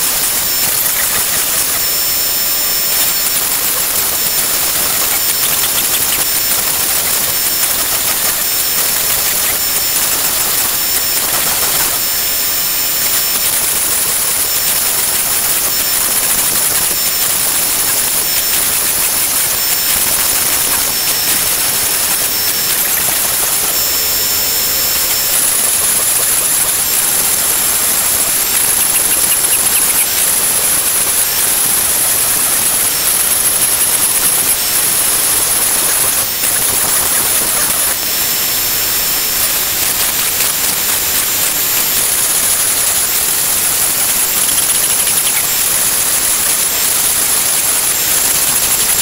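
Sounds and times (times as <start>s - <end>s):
router spindle cutting wood: 0.0s - 49.0s.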